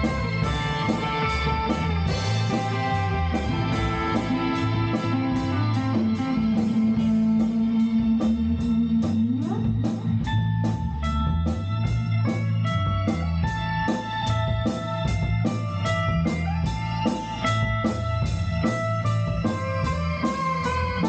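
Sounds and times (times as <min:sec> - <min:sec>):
bass guitar: 0:00.0 - 0:21.0
electric guitar: 0:00.0 - 0:21.0
steady drum beat: 0:00.0 - 0:21.0.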